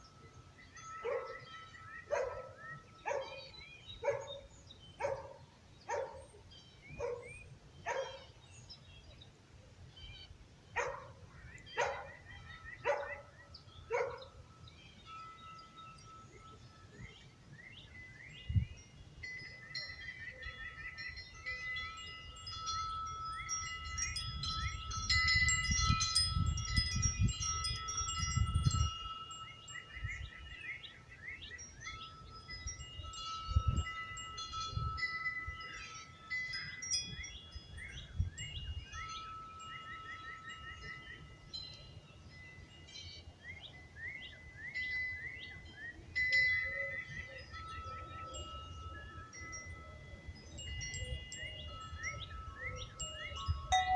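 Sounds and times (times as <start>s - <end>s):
metal wind chimes ringing: 0.0s - 4.2s, 11.8s - 53.9s
birds chirping in trills: 0.0s - 53.9s
low rumble of wind: 0.0s - 53.9s.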